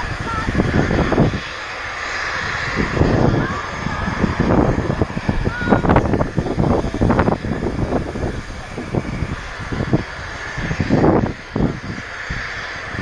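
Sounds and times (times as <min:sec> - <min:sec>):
distant jet roar: 0:00.0 - 0:13.0
wind buffeting microphone: 0:00.0 - 0:13.0.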